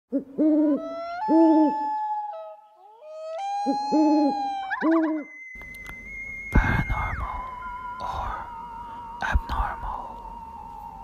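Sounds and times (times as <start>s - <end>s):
owl hooting: 0.1s - 11.0s
long held tones: 0.4s - 11.0s.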